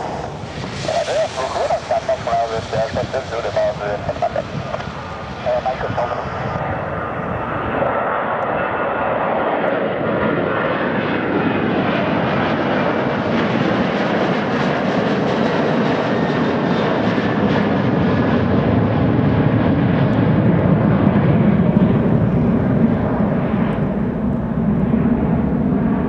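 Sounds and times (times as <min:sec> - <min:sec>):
jet engine rumble: 0:00.0 - 0:26.0.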